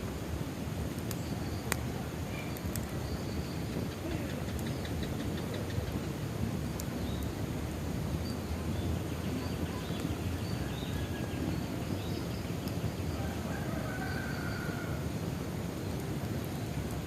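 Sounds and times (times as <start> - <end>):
bonfire rumbling and crackling: 0.0 - 17.0
birds chirping: 1.1 - 15.0.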